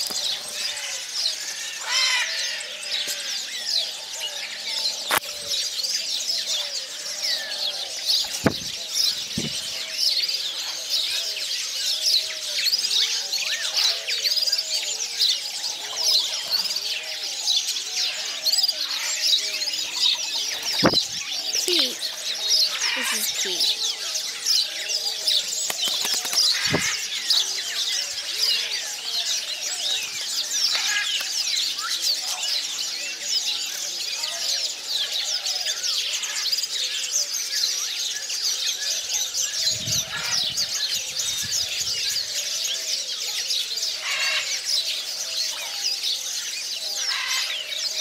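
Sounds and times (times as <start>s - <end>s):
small birds chirping and twittering: 0.0s - 48.0s.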